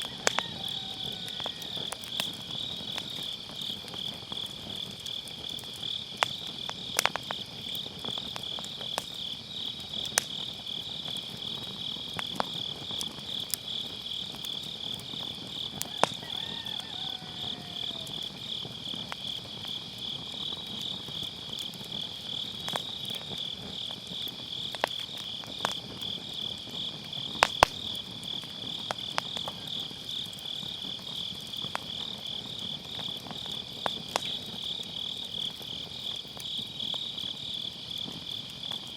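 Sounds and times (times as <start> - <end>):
insects chirping: 0.0 - 38.9
wood fire crackling and popping: 0.0 - 38.9.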